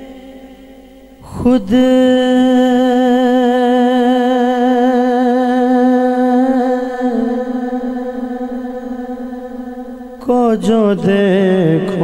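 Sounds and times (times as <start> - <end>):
man singing long note: 0.0 - 12.0.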